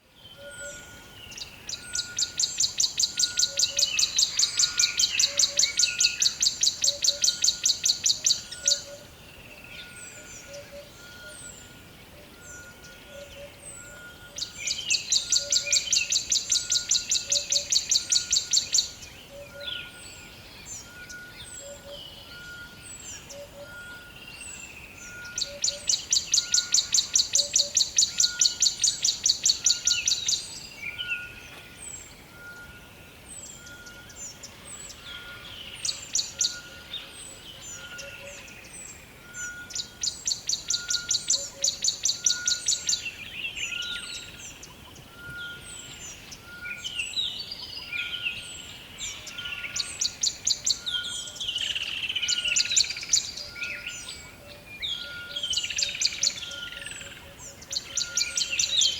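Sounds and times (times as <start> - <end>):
birds chirping: 0.2 - 58.9.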